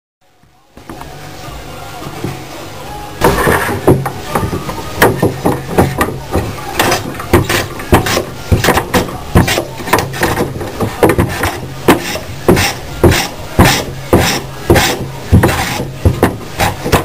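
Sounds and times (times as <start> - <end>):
steady low hum: 0.3 - 17.0.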